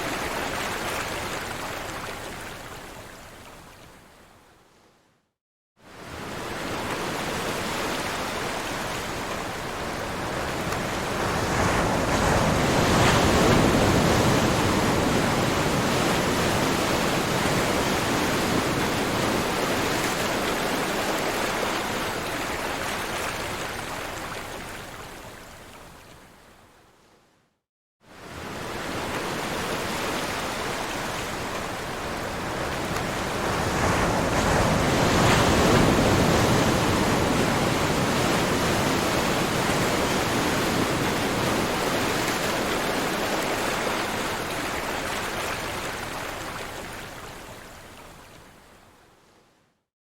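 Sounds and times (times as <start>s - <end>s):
ocean waves washing ashore: 0.0s - 3.5s, 5.8s - 26.1s, 28.0s - 49.5s.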